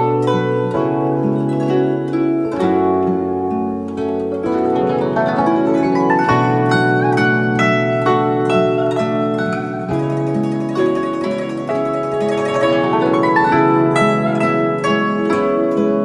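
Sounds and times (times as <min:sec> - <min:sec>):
plucked zither melody: 0:00.0 - 0:16.0.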